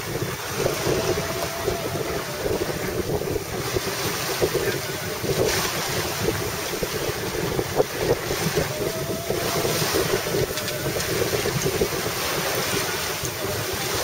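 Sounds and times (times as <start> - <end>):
water rushing past boat: 0.0 - 14.0
wind buffeting microphone: 0.0 - 14.0.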